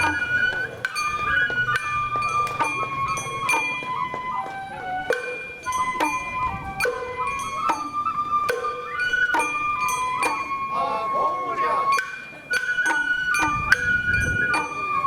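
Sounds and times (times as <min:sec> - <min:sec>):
bamboo flute held notes: 0:00.0 - 0:15.0.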